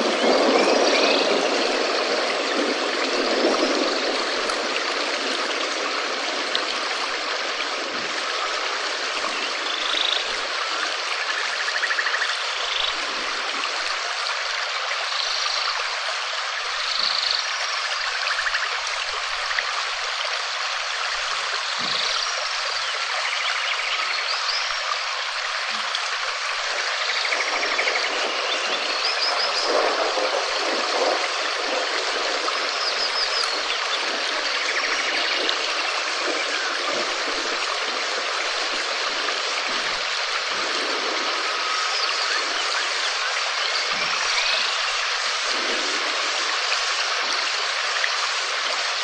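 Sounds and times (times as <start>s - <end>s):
steady rain hiss: 0.0s - 49.0s.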